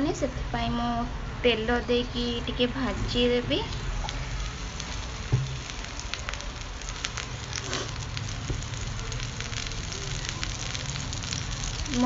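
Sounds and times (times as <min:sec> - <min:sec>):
vegetables sizzling with pops: 0:01.6 - 0:12.0.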